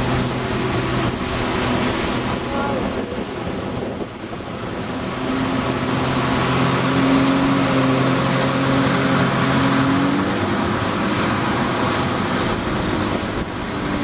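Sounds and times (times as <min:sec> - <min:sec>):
boat engine running: 0:00.0 - 0:14.0
rush of wake: 0:00.0 - 0:14.0
wind on microphone: 0:00.0 - 0:14.0.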